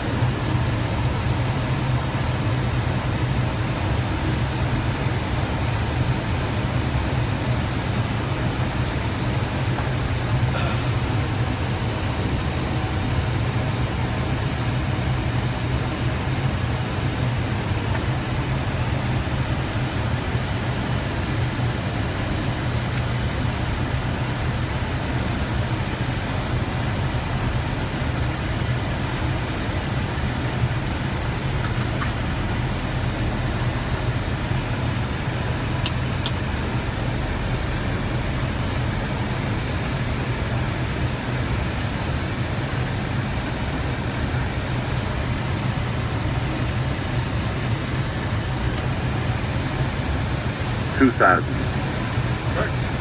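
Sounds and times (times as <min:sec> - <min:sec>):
rush of air in cockpit: 0:00.0 - 0:53.0.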